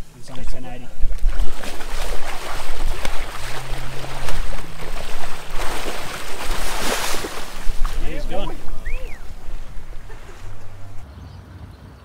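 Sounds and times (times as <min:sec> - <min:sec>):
loud splashes and churning water: 0:00.9 - 0:11.0.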